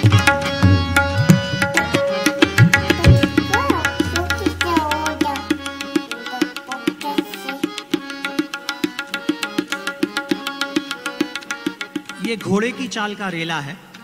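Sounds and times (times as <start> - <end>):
held accompanying tones: 0.0 - 13.3
tabla playing: 0.0 - 14.0.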